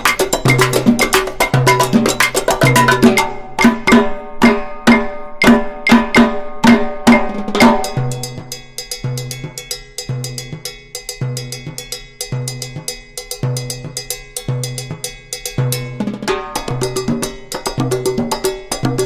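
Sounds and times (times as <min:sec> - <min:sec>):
percussion background music: 0:00.0 - 0:19.0.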